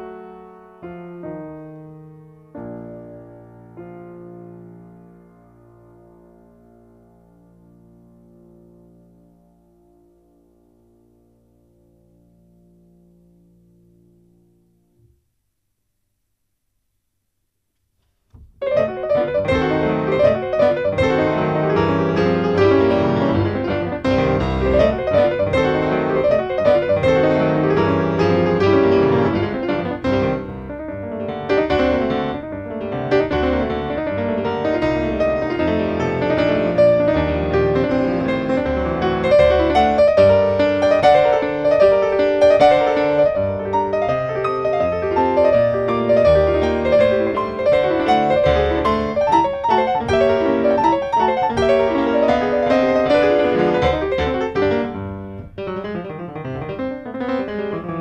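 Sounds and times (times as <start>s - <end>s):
solo classical piano: 0.0s - 58.0s.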